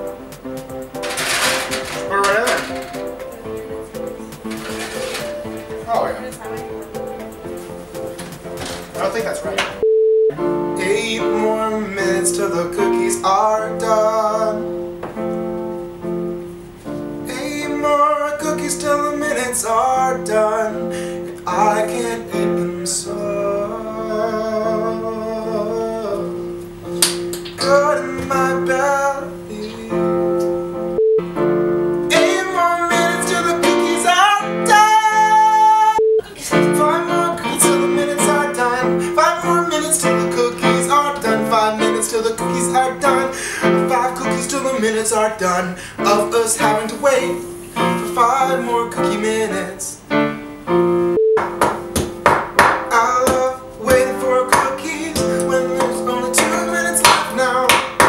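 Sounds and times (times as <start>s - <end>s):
electronic keyboard chords: 0.0s - 44.7s, 50.0s - 58.0s.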